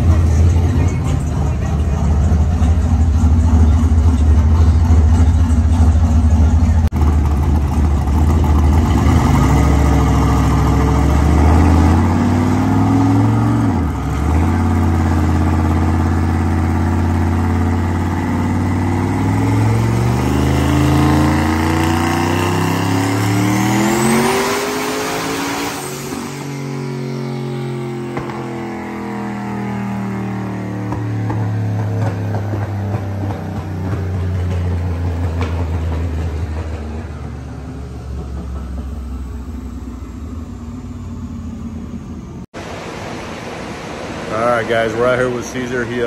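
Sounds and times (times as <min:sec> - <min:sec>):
pickup truck engine revving: 0:00.0 - 0:42.5, 0:44.0 - 0:46.0
high turbo whine: 0:00.0 - 0:46.0.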